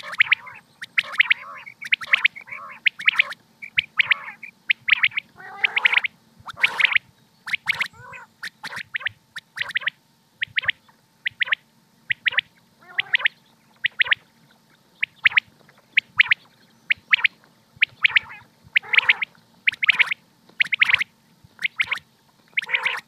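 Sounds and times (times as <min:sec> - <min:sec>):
faint steady hum: 0:00.0 - 0:23.0
quail calling: 0:00.0 - 0:23.0.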